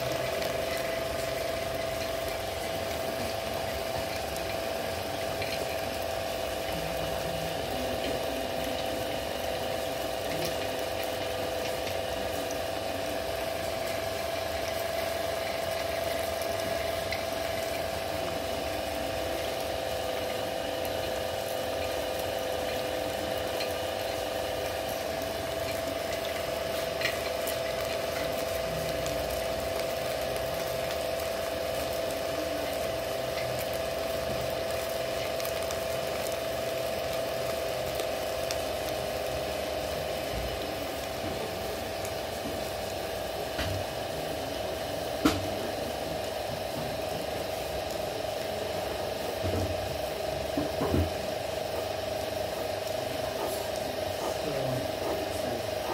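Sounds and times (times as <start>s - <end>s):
motor hum: 0.0s - 55.9s
stone mill grinding: 0.0s - 55.9s.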